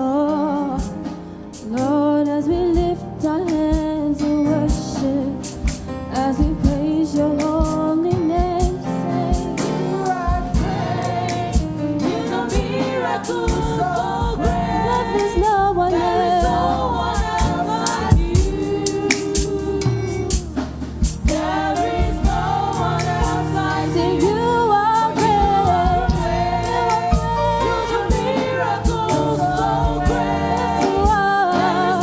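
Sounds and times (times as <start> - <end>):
gospel choir singing: 4.6 - 32.0
band playing: 4.7 - 32.0
drum hits: 5.6 - 24.4, 25.2 - 32.0.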